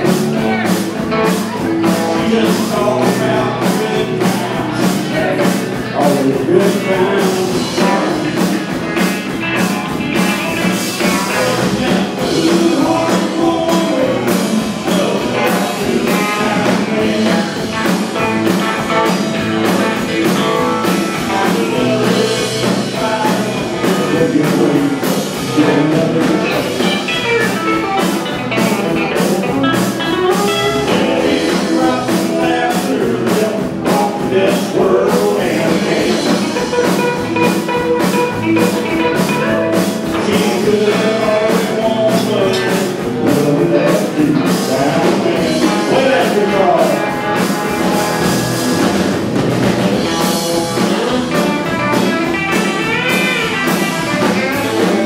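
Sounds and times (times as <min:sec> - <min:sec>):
live rock band playing: 0:00.0 - 0:55.0
steady drum beat: 0:00.0 - 0:55.0.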